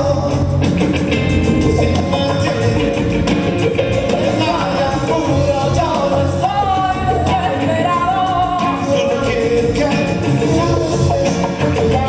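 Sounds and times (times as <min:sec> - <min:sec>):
person singing lead vocal: 0:00.0 - 0:12.0
rock band playing live: 0:00.0 - 0:12.0.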